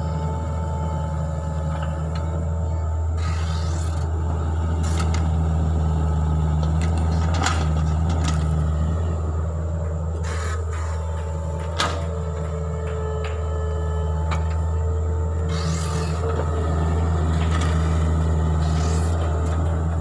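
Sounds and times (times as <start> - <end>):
excavator diesel engine running: 0.0 - 20.0
faint hydraulic whine: 0.0 - 20.0.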